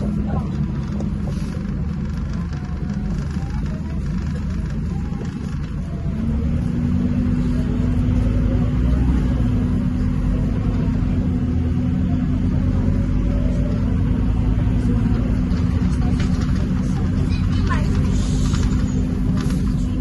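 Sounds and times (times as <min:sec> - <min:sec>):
bus diesel engine droning: 0:00.0 - 0:20.0.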